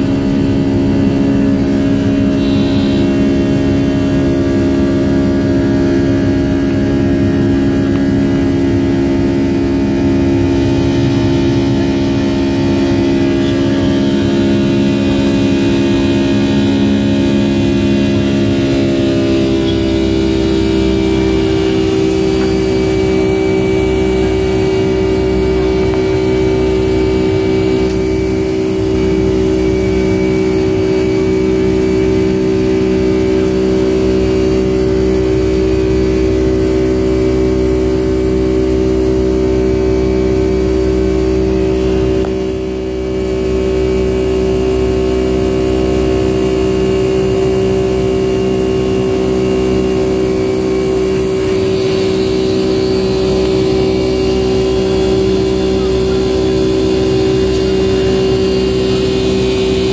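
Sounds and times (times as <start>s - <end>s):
jet engine roar in cabin: 0.0s - 59.9s
steady hum: 0.0s - 59.9s.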